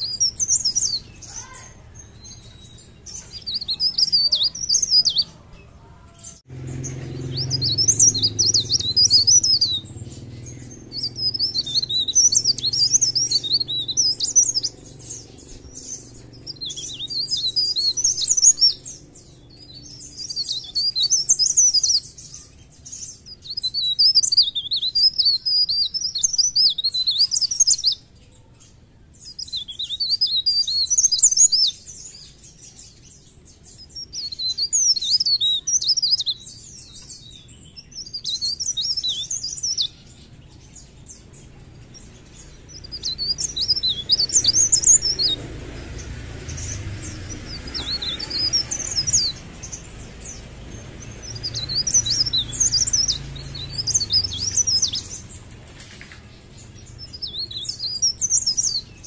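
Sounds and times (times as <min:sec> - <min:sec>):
bird twittering: 0:00.0 - 0:59.0.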